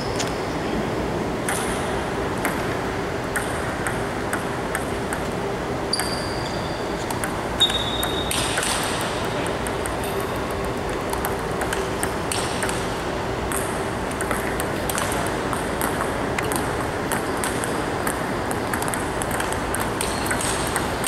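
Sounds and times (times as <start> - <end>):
table tennis balls clicking: 2.4 - 21.0.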